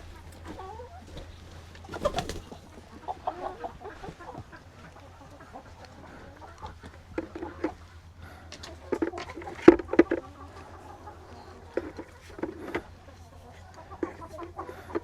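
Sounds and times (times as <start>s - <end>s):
chickens making soft calls: 0.0s - 15.0s.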